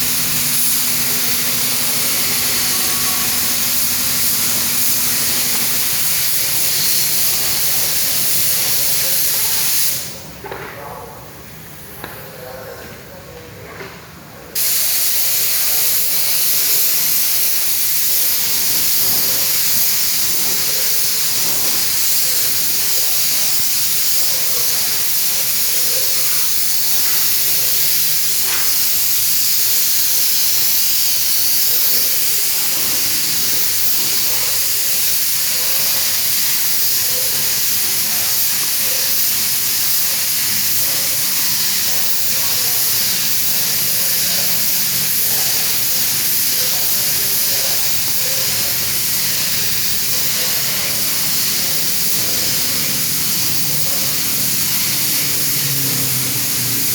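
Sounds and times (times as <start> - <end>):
spray gun hissing: 0.0 - 10.2, 14.6 - 56.9.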